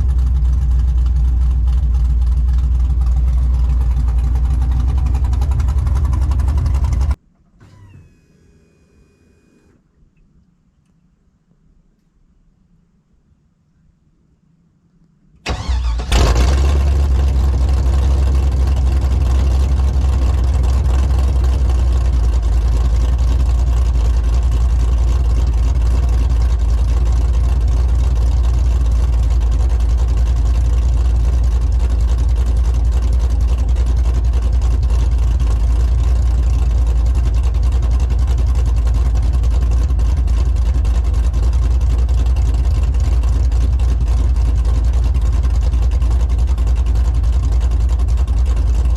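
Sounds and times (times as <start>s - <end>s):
engine cranking and idling: 0.0s - 9.8s, 15.4s - 48.9s.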